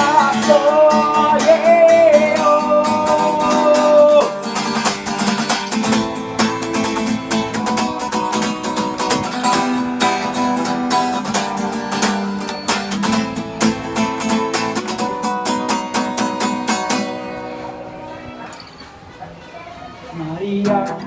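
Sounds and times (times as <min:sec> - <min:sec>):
acoustic guitar strumming: 0:00.0 - 0:19.2.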